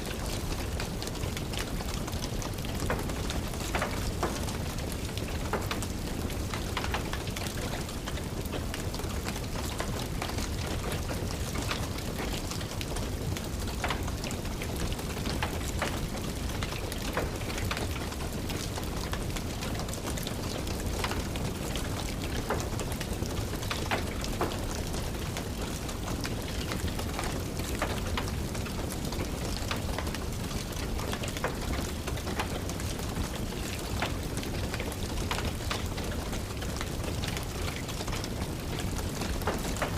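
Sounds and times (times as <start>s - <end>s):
steady rain: 0.0s - 39.9s
wood fire crackling: 0.1s - 39.9s.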